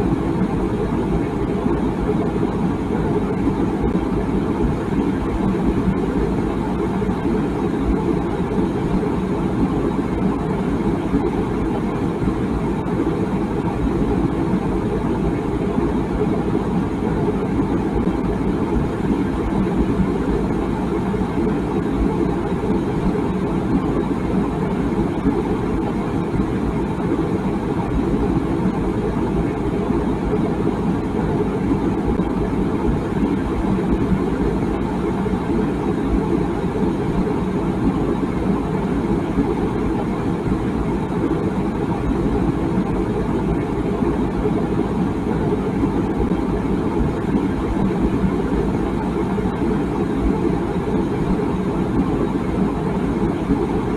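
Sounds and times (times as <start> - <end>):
water boiling in a kettle: 0.0 - 53.9.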